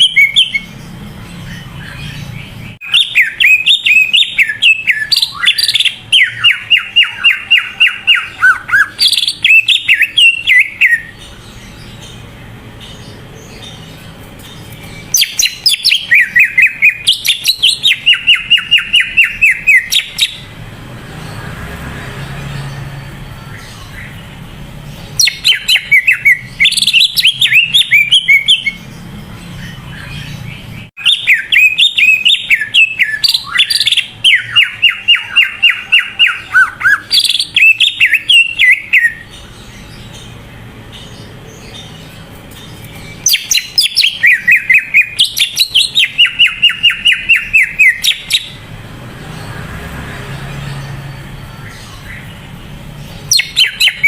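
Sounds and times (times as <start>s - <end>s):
bird fast chattering song: 0.0s - 21.6s, 22.4s - 54.0s.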